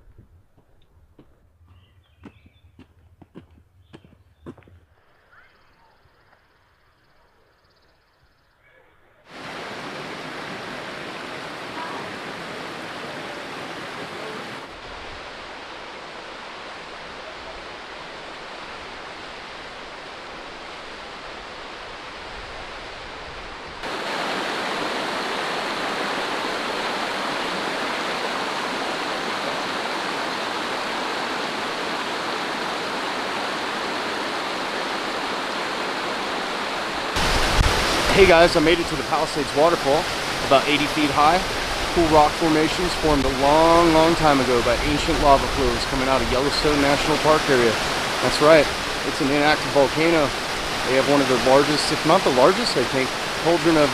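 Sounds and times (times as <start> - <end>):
waterfall rushing: 9.3 - 53.9.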